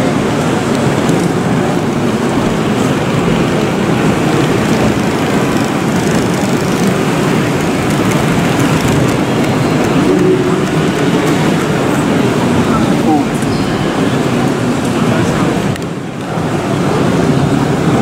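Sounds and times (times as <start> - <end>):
crowd noise in a hall: 0.0 - 18.0.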